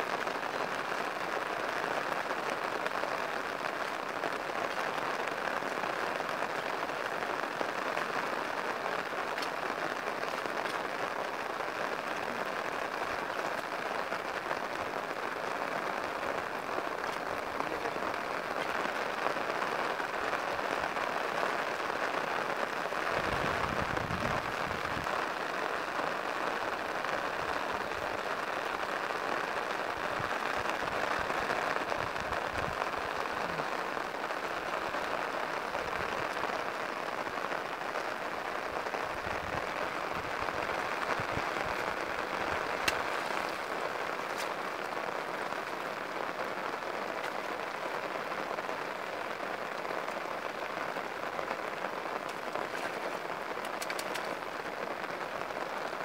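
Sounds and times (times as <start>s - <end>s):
steady rain on grass: 0.0s - 56.0s.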